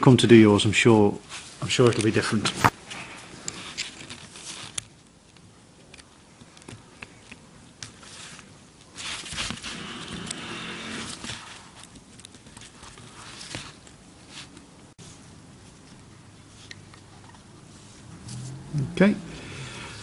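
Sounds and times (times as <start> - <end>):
gloved hands rustling: 1.3 - 18.6.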